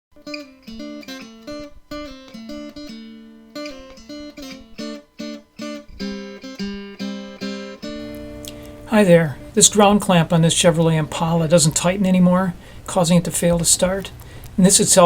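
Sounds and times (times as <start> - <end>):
acoustic guitar melody: 0.2 - 15.0.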